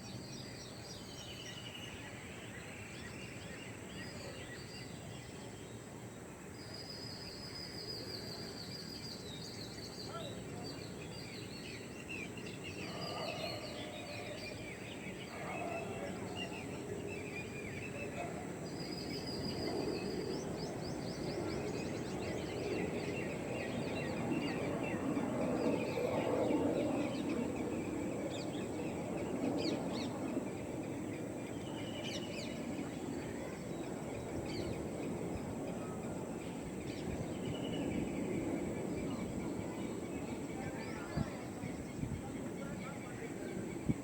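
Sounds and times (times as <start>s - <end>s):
birds chirping: 6.7s - 44.0s.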